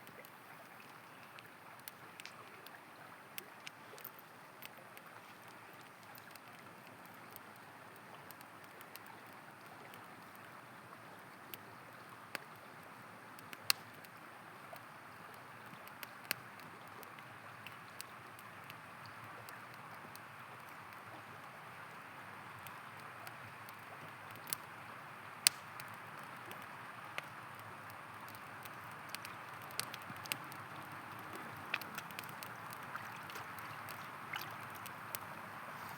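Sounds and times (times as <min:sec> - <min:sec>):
campfire popping and crackling: 0:00.0 - 0:35.9.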